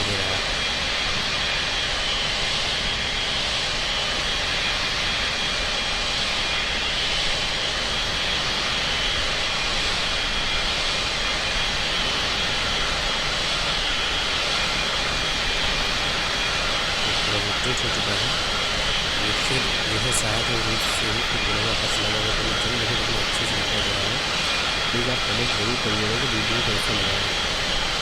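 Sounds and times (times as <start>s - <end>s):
high engine whine: 0.0s - 28.0s
jet engines running: 0.0s - 28.0s.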